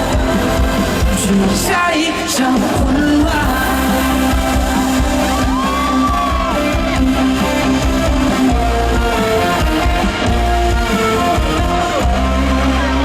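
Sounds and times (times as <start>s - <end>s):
guitar: 0.0s - 13.0s
live band playing pop song: 0.0s - 13.0s
steady bass: 0.0s - 13.0s.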